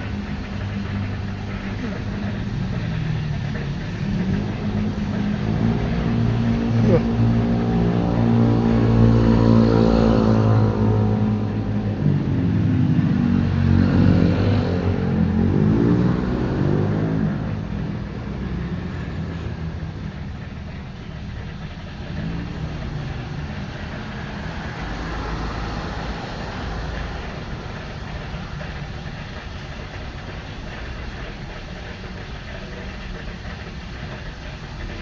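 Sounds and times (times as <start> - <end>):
low motor rumble: 0.0 - 35.0.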